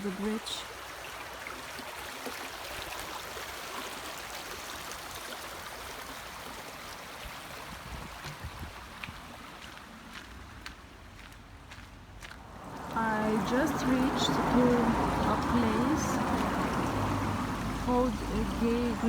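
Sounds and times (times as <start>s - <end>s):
stream rushing over stones: 0.0s - 10.9s, 12.4s - 19.0s.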